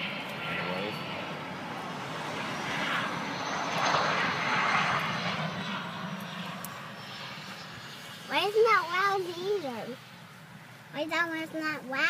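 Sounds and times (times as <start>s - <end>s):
airliner engine passing: 0.0s - 12.0s.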